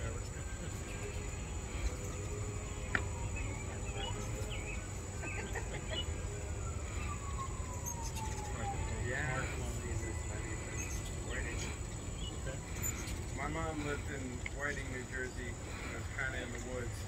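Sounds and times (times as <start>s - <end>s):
outdoor background noise: 0.0s - 17.0s
bird chirps: 0.1s - 17.0s.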